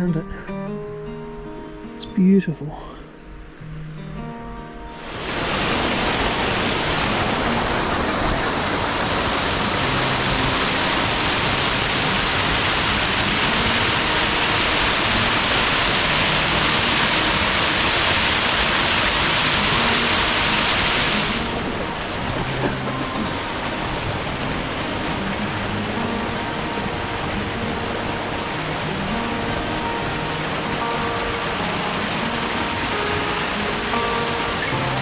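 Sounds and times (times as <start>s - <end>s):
waterfall rushing: 4.8s - 35.0s.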